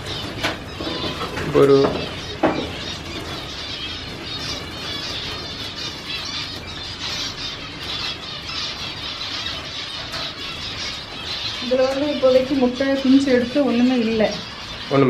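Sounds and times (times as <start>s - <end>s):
finches chirping: 0.0s - 15.0s.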